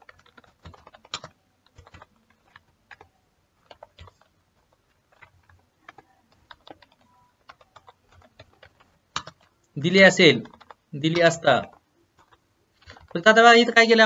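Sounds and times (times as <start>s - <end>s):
keyboard typing clicks: 0.0s - 14.0s.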